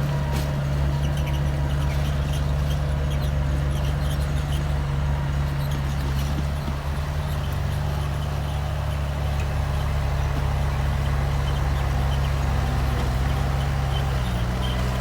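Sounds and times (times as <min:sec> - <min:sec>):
bulldozer diesel engine drone: 0:00.0 - 0:15.0.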